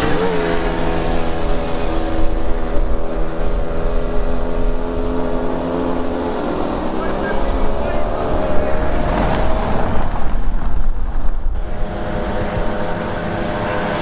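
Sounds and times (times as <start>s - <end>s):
moped engines running: 0.0s - 10.5s, 11.6s - 14.0s.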